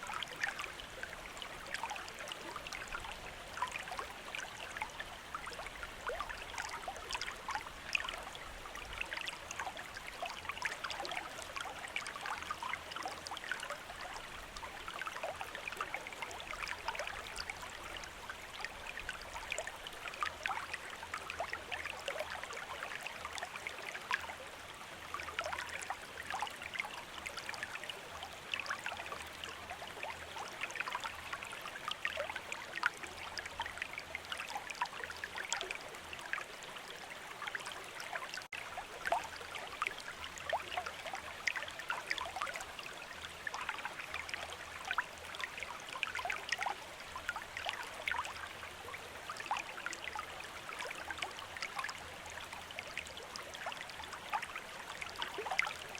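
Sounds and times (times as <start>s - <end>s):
stream babbling: 0.0s - 55.9s.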